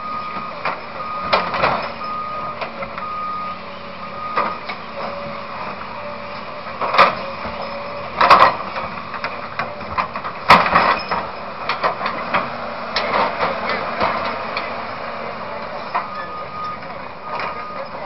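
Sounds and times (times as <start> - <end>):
excavator running: 0.0 - 18.0.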